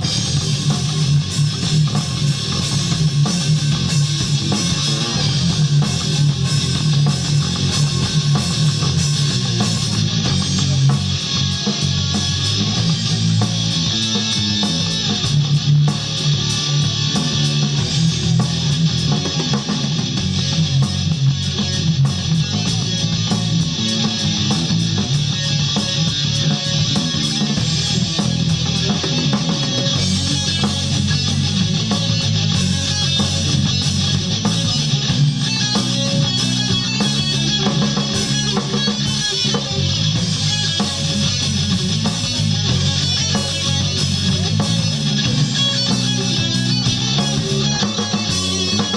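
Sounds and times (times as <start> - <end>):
electric guitar: 0.0 - 48.9
rock band playing live: 0.0 - 48.9.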